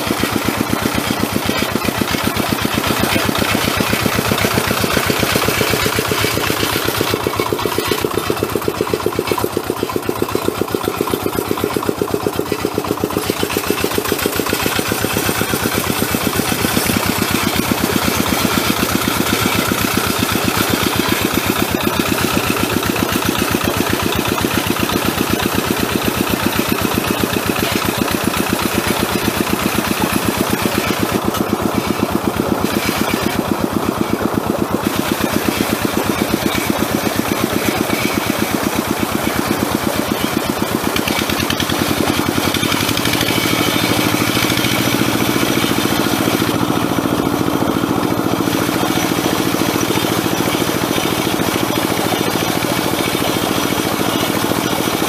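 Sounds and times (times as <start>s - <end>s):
diesel hand tractor engine running: 0.0s - 55.0s.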